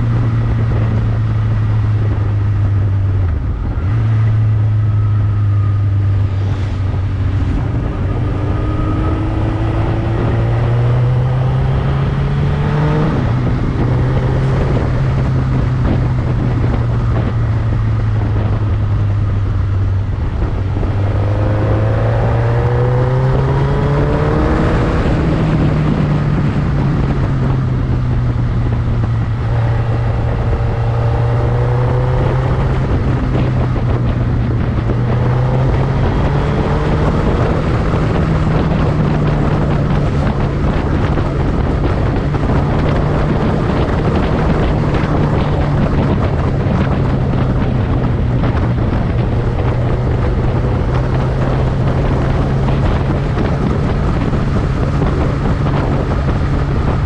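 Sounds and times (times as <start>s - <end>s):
motorcycle engine running: 0.0s - 57.0s
wind on the microphone: 0.0s - 57.0s.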